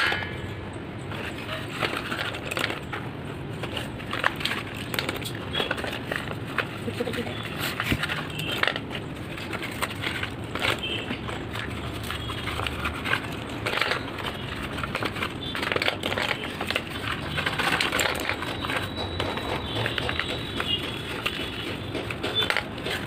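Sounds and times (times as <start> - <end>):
paper rustling: 1.0 - 23.0
pencils clicking into steel bowl: 1.0 - 23.0
pencils snapping: 1.2 - 23.0.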